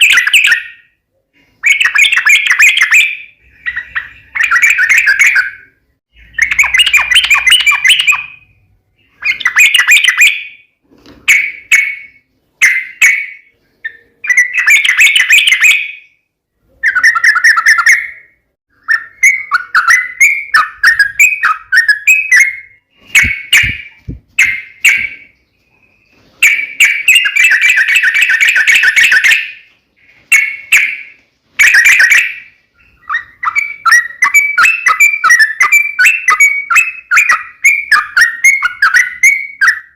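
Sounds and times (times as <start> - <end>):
bird singing fast chattering phrases: 0.0 - 0.8, 1.6 - 10.7, 11.3 - 39.9.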